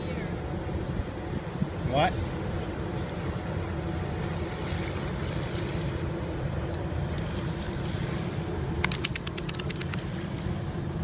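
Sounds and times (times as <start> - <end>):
ship engine rumble and hum: 0.0 - 11.0.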